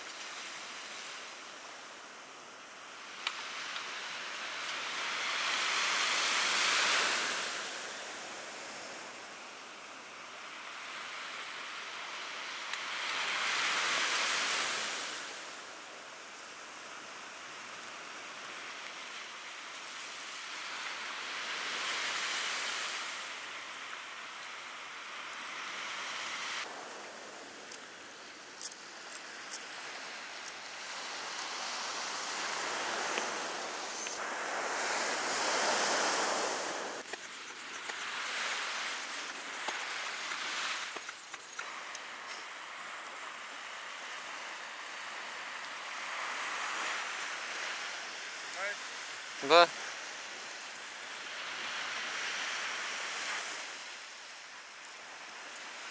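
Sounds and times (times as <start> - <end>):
ocean surf breaking: 0.2 - 9.4, 10.4 - 54.5.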